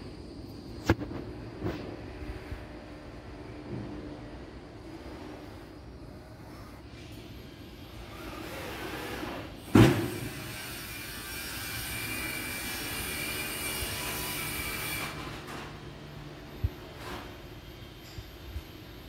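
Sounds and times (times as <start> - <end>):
mechanical whine: 0.0 - 19.0.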